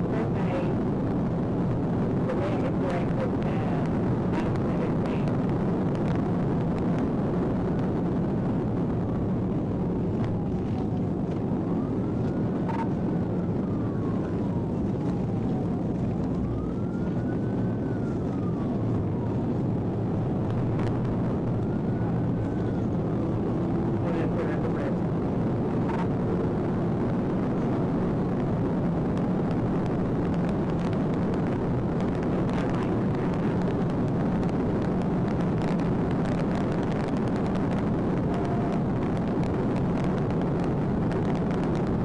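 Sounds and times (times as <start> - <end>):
muffled police siren wailing: 0.0 - 42.0
road and wind noise: 0.0 - 42.0.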